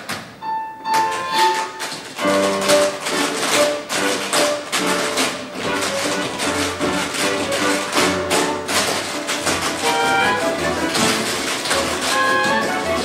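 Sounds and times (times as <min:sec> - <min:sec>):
upbeat instrumental music: 0:00.4 - 0:13.0
sharp clacking taps: 0:00.9 - 0:13.0.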